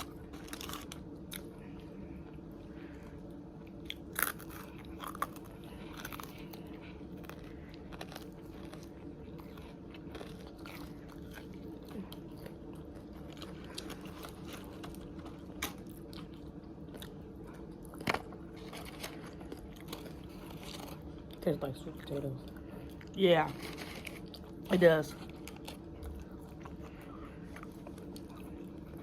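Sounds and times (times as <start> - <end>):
chewing fried food: 0.0 - 29.0
steady low hum: 0.0 - 29.0.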